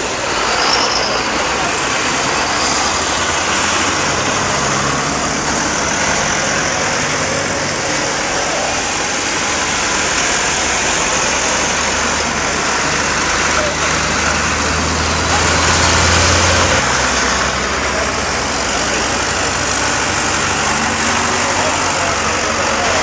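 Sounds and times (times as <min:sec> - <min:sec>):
engine humming: 0:00.0 - 0:23.0
tractor engines running: 0:00.0 - 0:23.0.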